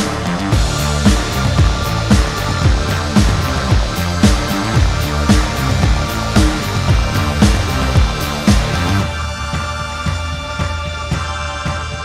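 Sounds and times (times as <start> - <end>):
bass drum hits: 0.0 - 11.2
bass line: 0.0 - 12.0.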